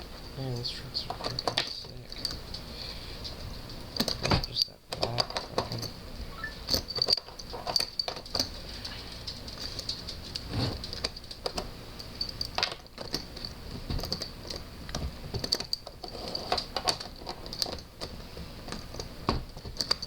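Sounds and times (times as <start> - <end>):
small hard parts clicking: 1.0 - 20.0.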